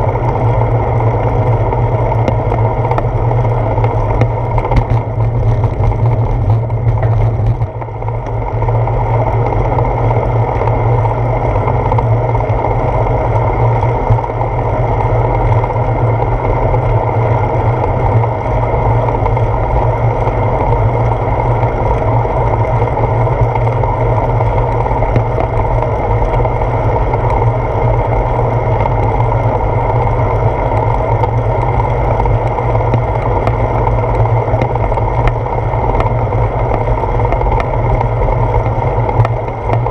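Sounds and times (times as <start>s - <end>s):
bicycle road rumble: 0.0s - 39.9s.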